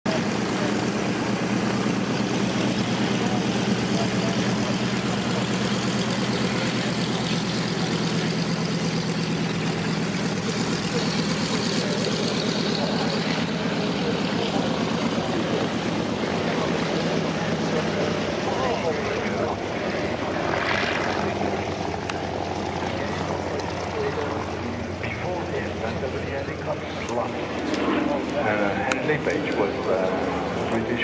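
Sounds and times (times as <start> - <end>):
aircraft engine running: 0.1 - 31.0.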